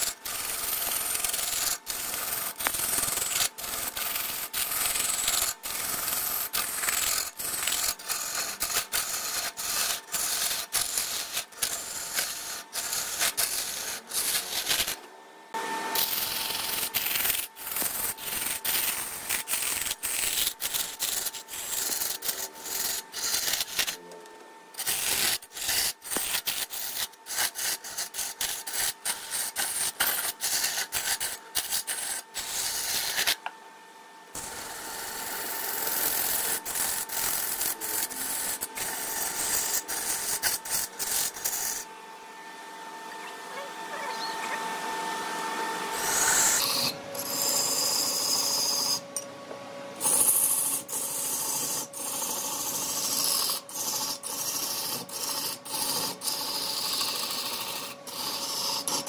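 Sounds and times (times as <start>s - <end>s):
wood rasping on lathe: 0.0s - 15.0s, 16.0s - 24.0s, 24.8s - 33.4s, 34.4s - 41.9s, 46.0s - 49.0s, 50.0s - 59.0s.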